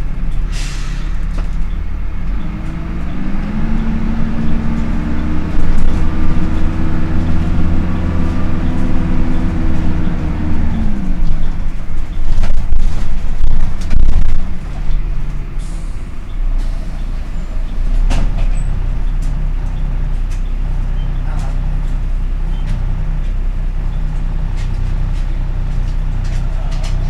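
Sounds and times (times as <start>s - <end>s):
diesel bus engine running: 0.0s - 27.0s.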